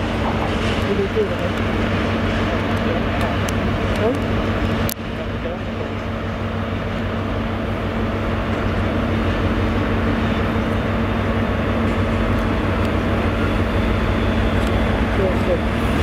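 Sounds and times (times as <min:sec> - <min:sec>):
train diesel engines droning: 0:00.0 - 0:16.0.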